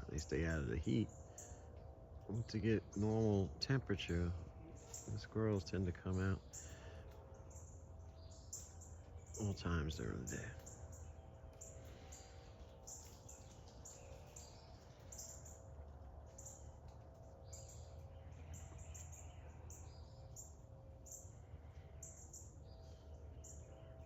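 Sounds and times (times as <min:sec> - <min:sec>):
low steady background rumble: 0:00.0 - 0:24.0
small birds chirping: 0:00.0 - 0:24.0.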